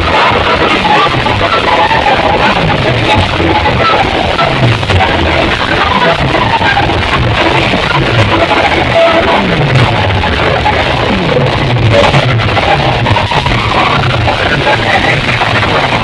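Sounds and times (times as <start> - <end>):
loud dance music with heavy bass: 0.0 - 16.0.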